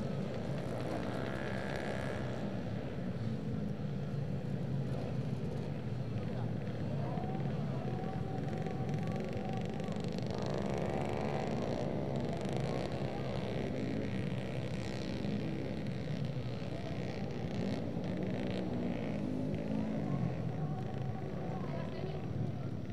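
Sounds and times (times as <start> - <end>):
motorcycle engines revving: 0.0 - 22.9.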